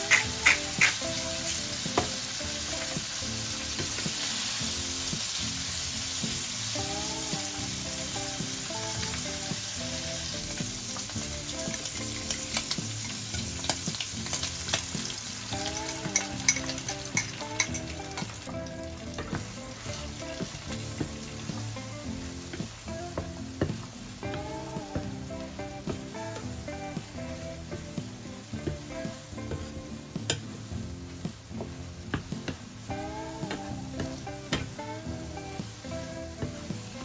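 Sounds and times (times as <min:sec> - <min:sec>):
shrimp sizzling in oil: 0:00.0 - 0:37.0.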